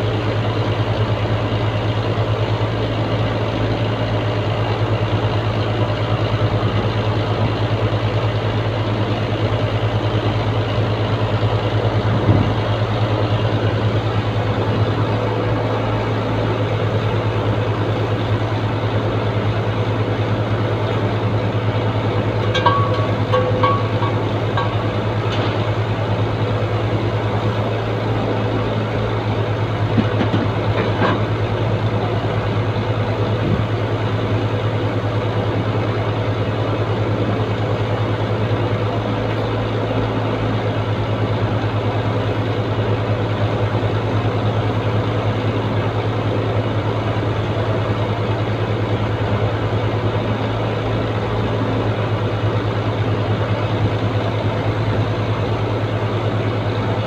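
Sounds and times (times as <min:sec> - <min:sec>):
truck diesel engine idling: 0:00.0 - 0:57.0.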